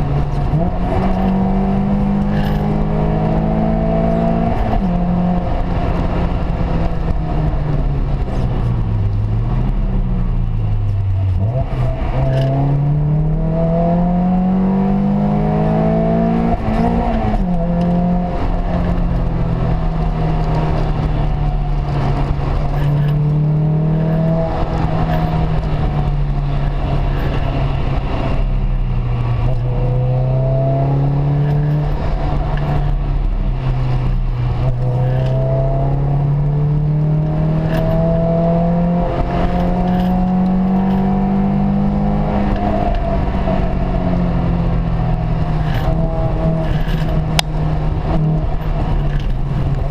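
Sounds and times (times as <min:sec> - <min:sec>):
car engine running: 0:00.0 - 0:49.9
road and tyre noise: 0:00.0 - 0:49.9.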